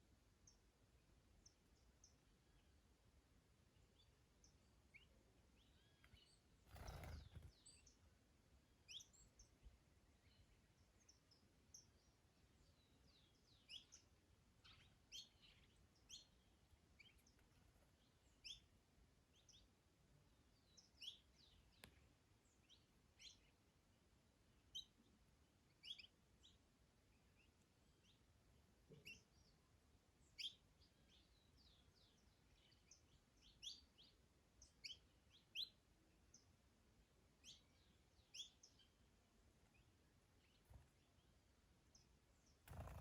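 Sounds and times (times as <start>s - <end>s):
small songbirds chirping: 0.0s - 43.0s.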